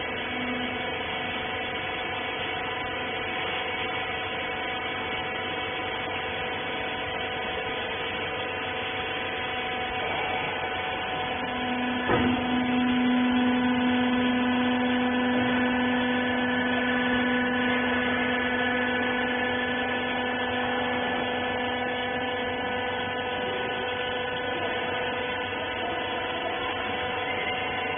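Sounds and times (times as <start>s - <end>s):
hydraulic motor and pump hum: 0.0s - 27.9s.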